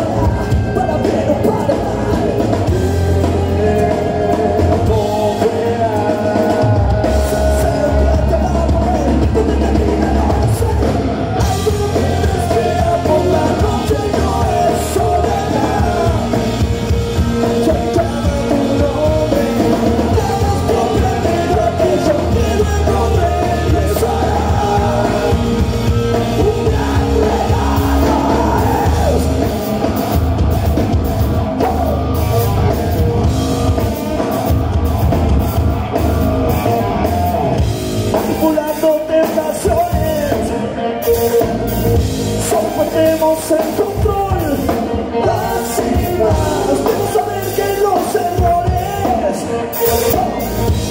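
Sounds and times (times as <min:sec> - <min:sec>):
bass guitar: 0:00.0 - 0:50.9
drum kit: 0:00.0 - 0:50.9
electric guitars: 0:00.0 - 0:50.9
vocals: 0:00.0 - 0:50.9.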